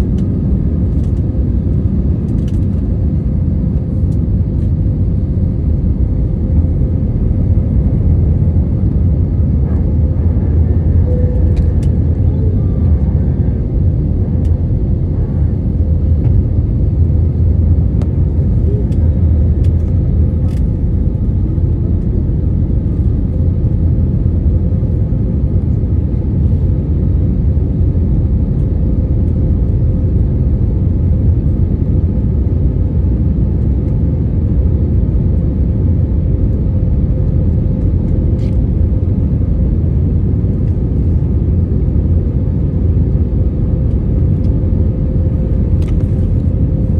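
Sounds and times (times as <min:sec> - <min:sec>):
jet engines rumbling: 0:00.0 - 0:35.0, 0:35.8 - 0:46.9.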